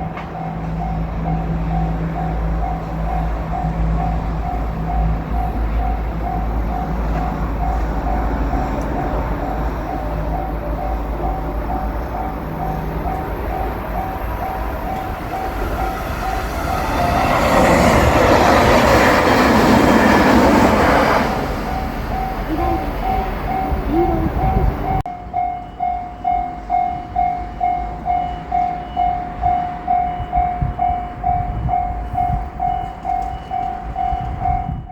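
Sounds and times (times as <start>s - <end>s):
level-crossing bell clanging: 0.0s - 34.9s
train passing: 0.0s - 34.9s.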